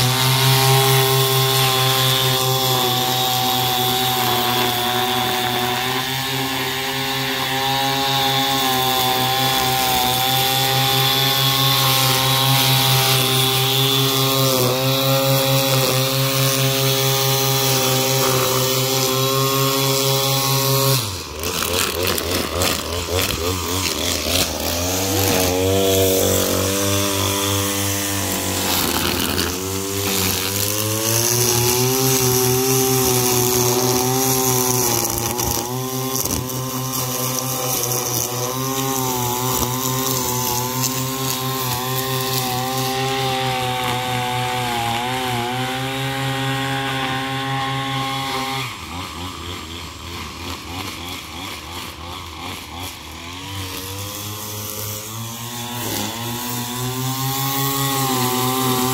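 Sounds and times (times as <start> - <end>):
string trimmer cutting grass: 0.0 - 58.9.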